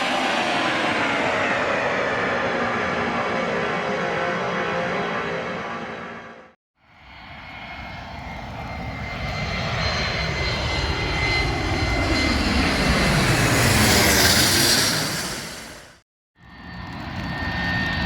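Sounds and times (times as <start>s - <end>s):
airplane flying past: 0.0s - 18.0s
high engine whine: 0.0s - 18.0s.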